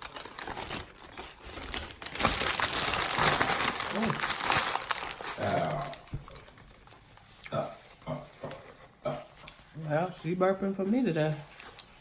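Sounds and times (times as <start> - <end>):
paper or wrapper crinkling: 0.0 - 7.4, 9.5 - 12.0.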